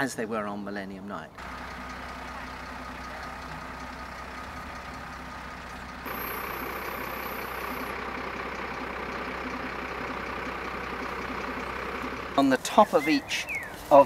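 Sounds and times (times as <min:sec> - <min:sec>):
lorry engine running: 0:01.4 - 0:14.0.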